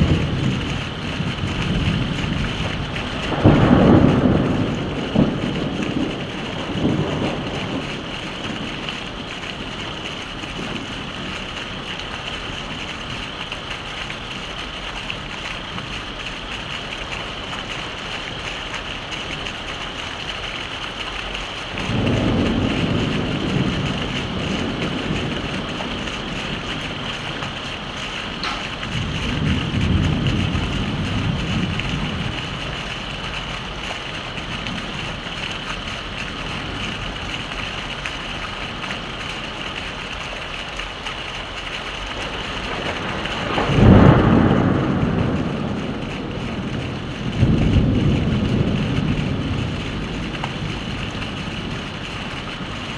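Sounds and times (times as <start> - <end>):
heavy rain: 0.0 - 52.9
thunder rumbling: 0.0 - 52.9.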